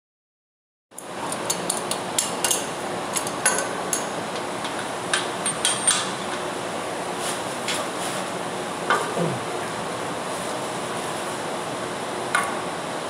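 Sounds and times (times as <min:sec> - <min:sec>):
steady background noise: 0:01.0 - 0:13.0.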